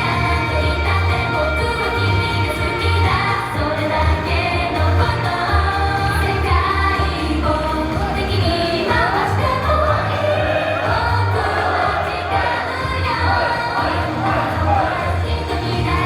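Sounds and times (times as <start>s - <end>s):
upbeat pop backing track: 0.0s - 16.0s
women singing together: 0.0s - 16.0s.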